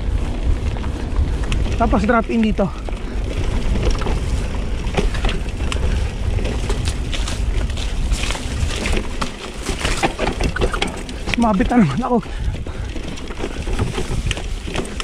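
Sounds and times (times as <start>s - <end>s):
tyres crunching over stones: 0.0s - 15.0s
wind and rolling rumble: 0.0s - 15.0s
twigs snapping against bike: 1.3s - 15.0s.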